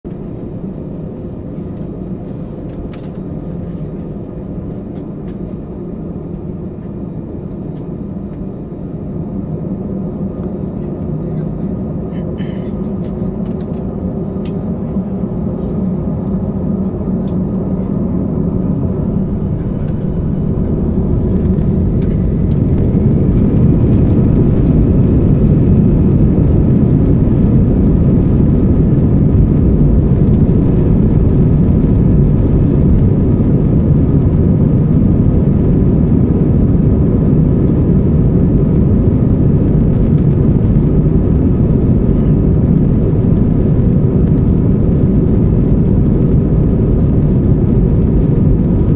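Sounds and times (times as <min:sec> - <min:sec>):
jet engines rumbling with whine: 0:00.1 - 0:48.9.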